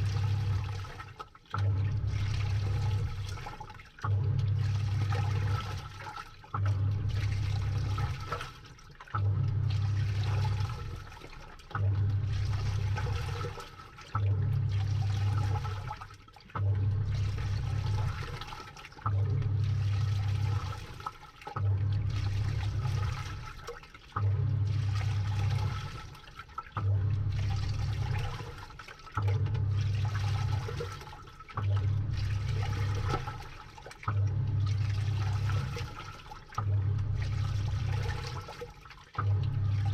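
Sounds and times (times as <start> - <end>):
washing machine motor hum: 0.0 - 39.9
water sloshing through clothes: 0.0 - 39.9.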